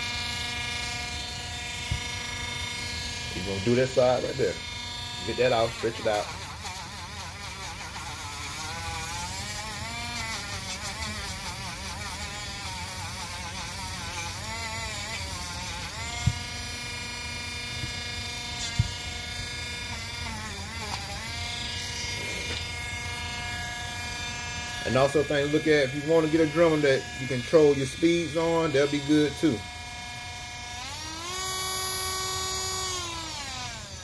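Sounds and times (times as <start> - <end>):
rotary tool grinding rubber: 0.0 - 34.0.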